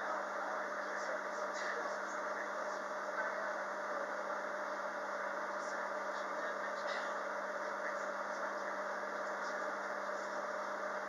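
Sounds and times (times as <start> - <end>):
electric train interior hum: 0.0 - 11.0.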